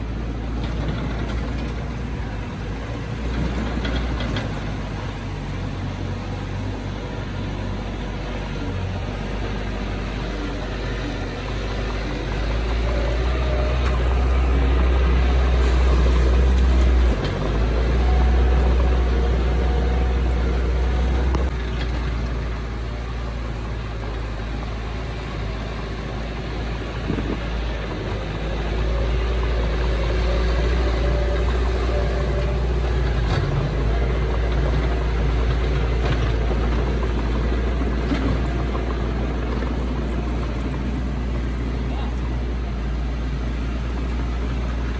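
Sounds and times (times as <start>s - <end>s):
diesel engine deep rumble: 0.0s - 44.9s.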